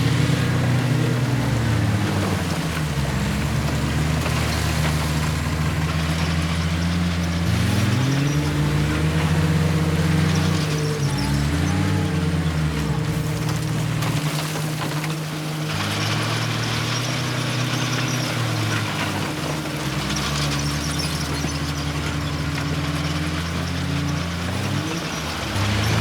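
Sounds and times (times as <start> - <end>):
heavy diesel machinery engine: 0.0 - 26.0.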